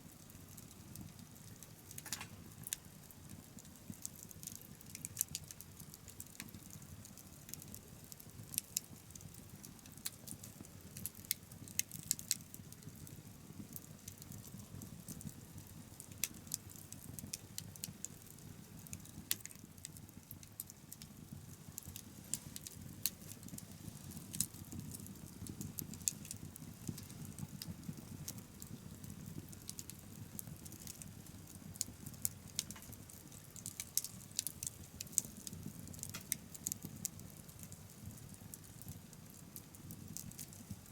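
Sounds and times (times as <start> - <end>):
bonfire crackling and popping: 0.0 - 40.9.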